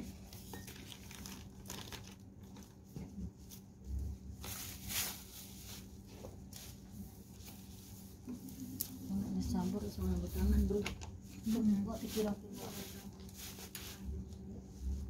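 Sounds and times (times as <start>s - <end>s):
hand mixing dough in plastic bowl: 0.0s - 15.0s.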